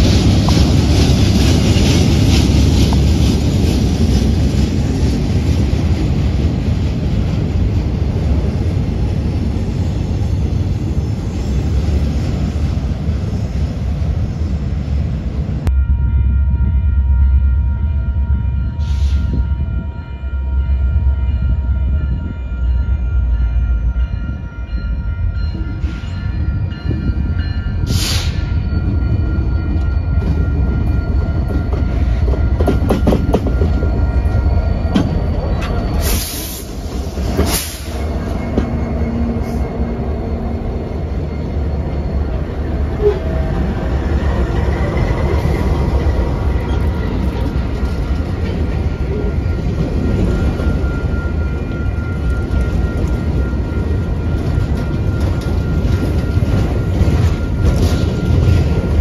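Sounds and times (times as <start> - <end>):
wheels on rail: 0.0 - 59.0.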